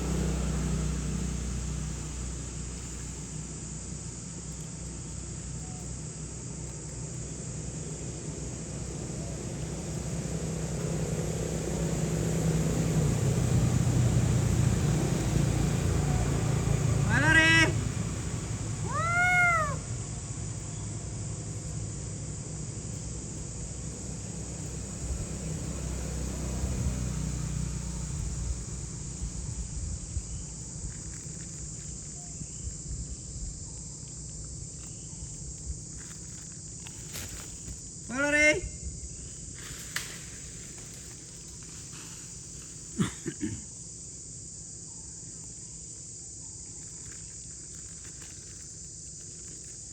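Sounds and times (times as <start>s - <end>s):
high-pitched insect chorus: 0.0s - 49.9s
low uneven rumble: 0.0s - 49.9s
motor vehicle engine hum: 0.0s - 49.9s.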